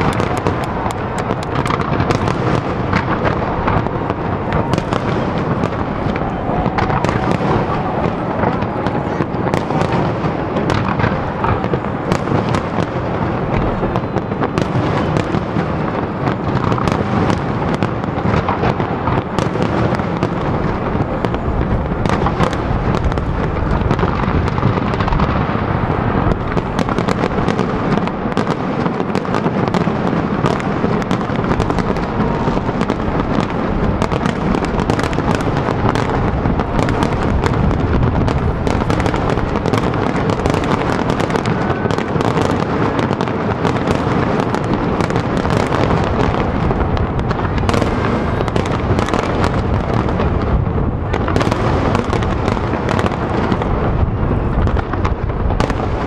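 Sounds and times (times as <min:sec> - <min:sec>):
fireworks bursting and crackling: 0:00.0 - 0:56.0
sharp firework bangs: 0:00.0 - 0:56.0.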